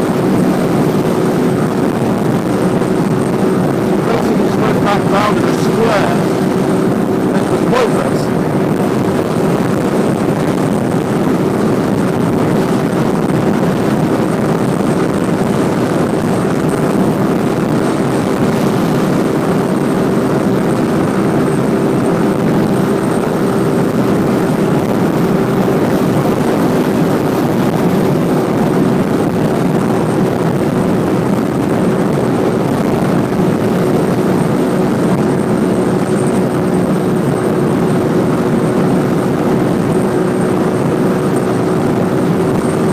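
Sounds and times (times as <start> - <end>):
motorcycle engine running: 0.0 - 42.9
rushing wind noise: 0.0 - 42.9.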